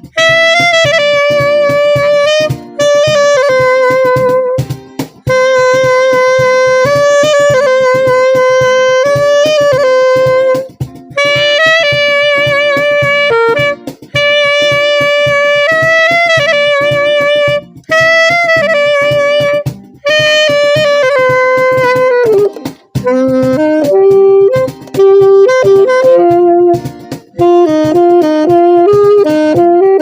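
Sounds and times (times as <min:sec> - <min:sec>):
rhythmic accompaniment: 0:00.0 - 0:30.0
saxophone slow melody: 0:00.0 - 0:30.0.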